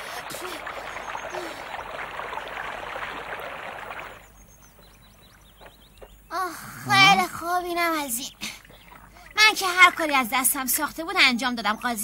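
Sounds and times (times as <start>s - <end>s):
water splashing and sloshing: 0.0s - 6.2s, 7.2s - 12.0s.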